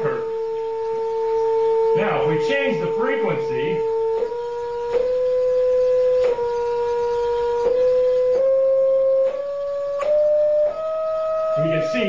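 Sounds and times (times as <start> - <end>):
sine test tone: 0.0 - 12.0.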